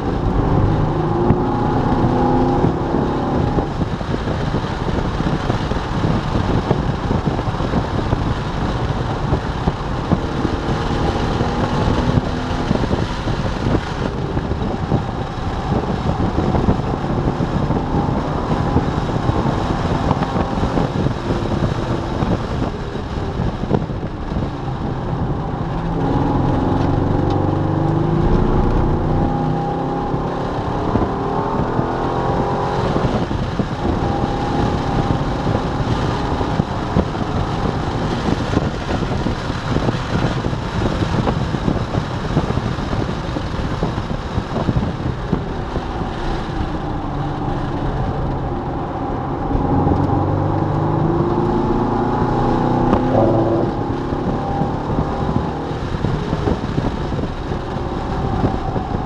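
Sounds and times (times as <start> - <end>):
car engine accelerating: 0.0 - 59.0
tyre and wind noise: 0.0 - 59.0.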